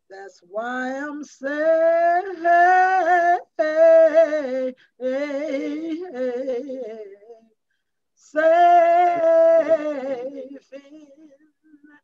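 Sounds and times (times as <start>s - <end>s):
woman singing with vibrato: 0.1s - 7.4s, 8.2s - 12.0s.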